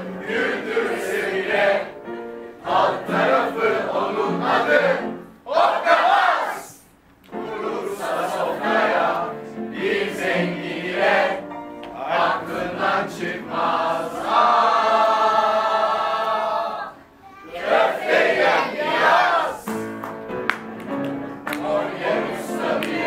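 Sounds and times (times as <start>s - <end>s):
group singing together: 0.0s - 19.9s, 21.4s - 23.0s.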